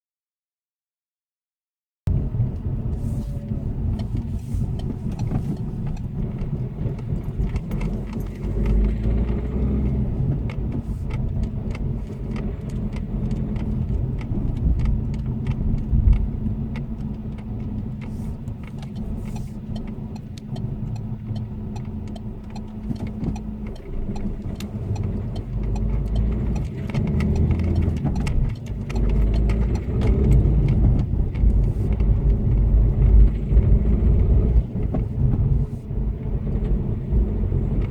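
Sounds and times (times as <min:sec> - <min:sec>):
diesel engine rumble: 0:02.1 - 0:37.9
engine ticking and clacking: 0:02.1 - 0:37.9.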